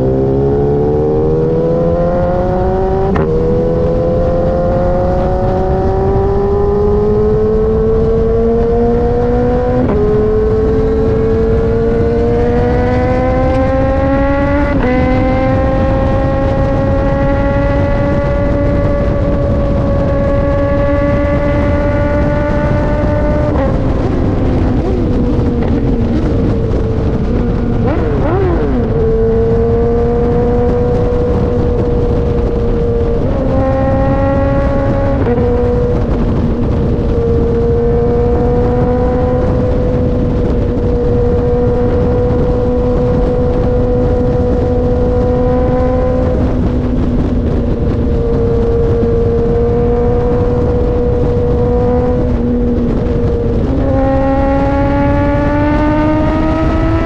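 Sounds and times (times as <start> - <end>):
constant low rush: 0.0 - 57.0
motorcycle engine accelerating: 0.0 - 57.0.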